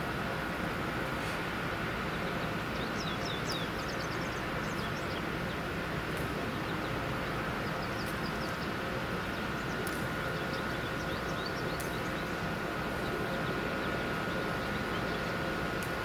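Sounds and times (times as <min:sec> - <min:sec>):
faint high hum: 0:00.0 - 0:16.0
small birds chirping: 0:02.0 - 0:05.7, 0:06.4 - 0:15.5.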